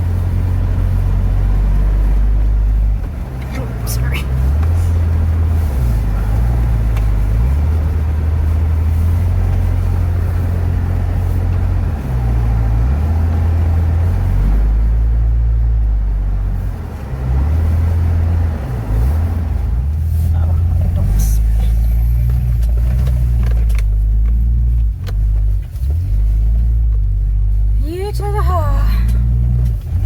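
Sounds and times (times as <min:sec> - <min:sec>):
heavy engine rumble: 0:00.0 - 0:30.0.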